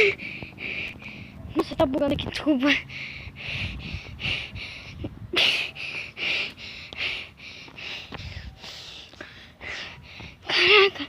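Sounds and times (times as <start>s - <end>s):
person panting heavily: 0.0s - 1.5s, 2.7s - 11.0s.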